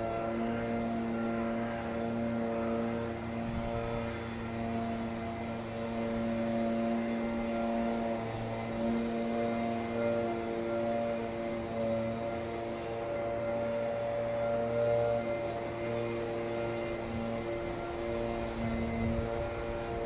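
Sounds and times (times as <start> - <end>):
train diesel engines droning: 0.0 - 20.0.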